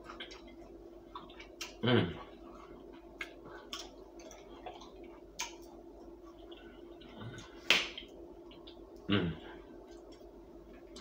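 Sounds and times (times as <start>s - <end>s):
faint steady hum: 0.0s - 11.0s
quiet chewing: 0.0s - 11.0s.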